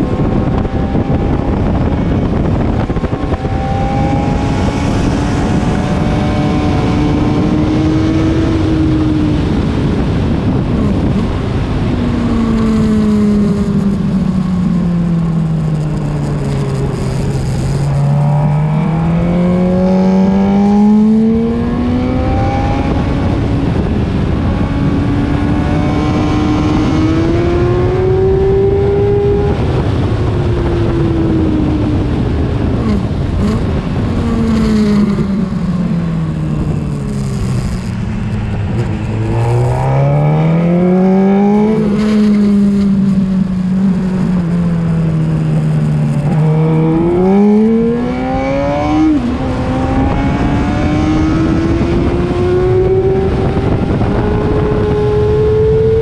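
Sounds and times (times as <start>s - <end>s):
motorcycle engine at racing speed: 0.0s - 56.0s
wind rush: 0.0s - 56.0s.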